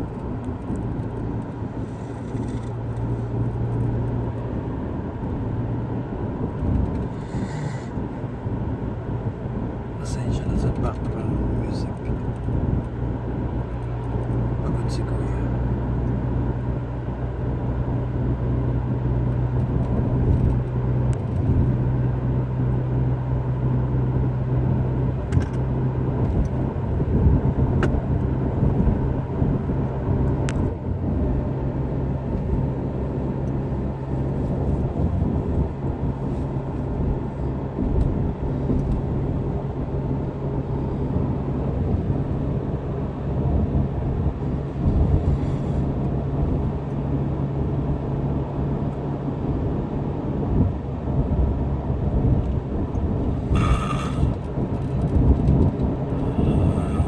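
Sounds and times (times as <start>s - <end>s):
vehicle cabin engine and road hum: 0.0s - 57.0s.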